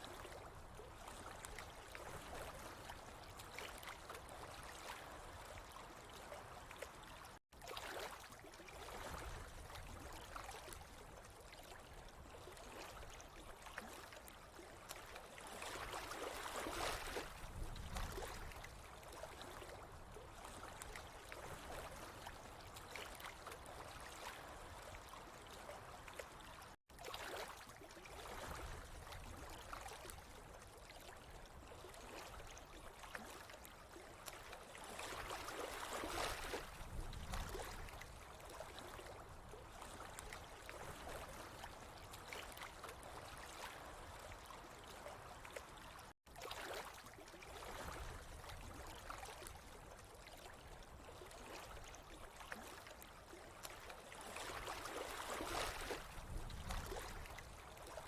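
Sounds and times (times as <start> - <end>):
water trickling and gurgling: 0.0 - 58.0.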